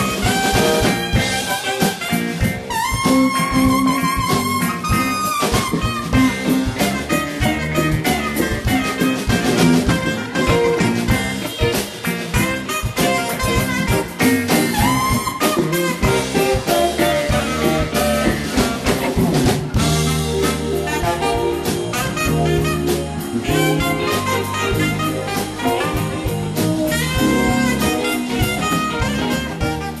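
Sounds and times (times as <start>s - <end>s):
saxophone melody: 0.0s - 30.0s
smooth jazz band playing: 0.0s - 30.0s.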